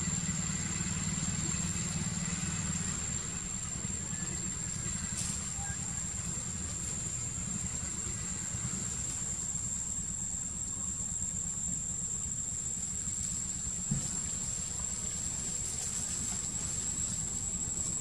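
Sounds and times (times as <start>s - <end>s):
insects trilling: 0.0s - 18.0s
low constant rumble: 0.0s - 18.0s.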